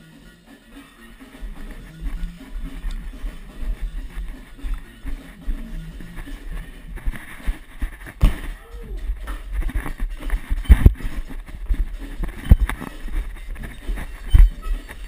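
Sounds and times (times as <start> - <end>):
clothing rustle: 1.1 - 15.0
body thumping on tiled floor: 1.5 - 13.6.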